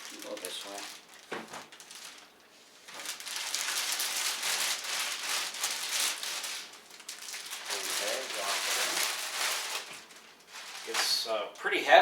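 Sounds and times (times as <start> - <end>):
packaging rustling and crinkling: 0.0 - 11.8.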